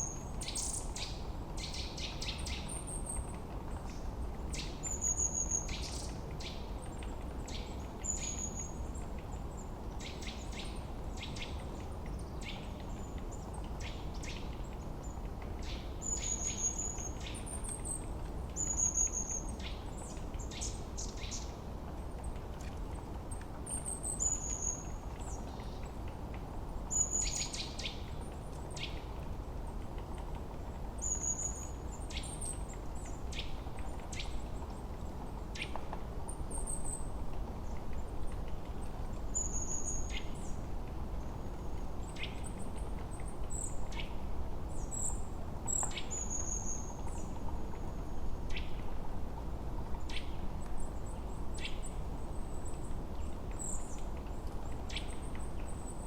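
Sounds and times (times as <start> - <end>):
low background hiss: 0.0 - 56.0.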